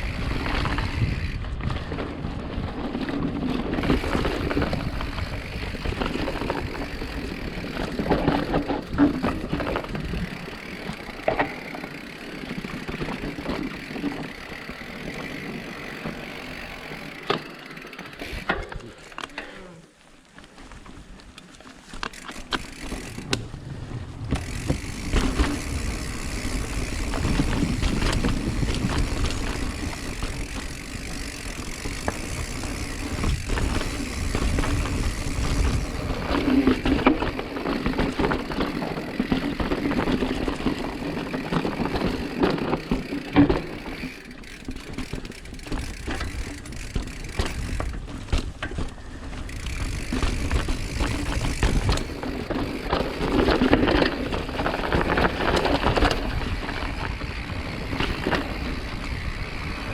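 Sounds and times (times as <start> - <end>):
bike clatter and rattle: 0.0 - 59.9
bike tyre noise: 0.0 - 59.9.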